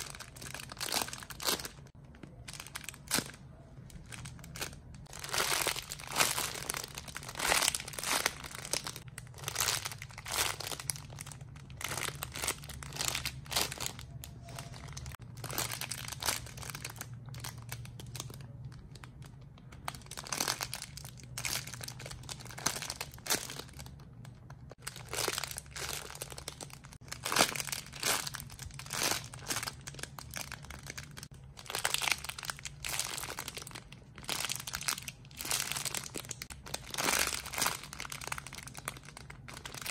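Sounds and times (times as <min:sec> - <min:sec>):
low steady hum: 0:00.0 - 0:39.9
plastic wrapping crinkling: 0:00.0 - 0:39.9.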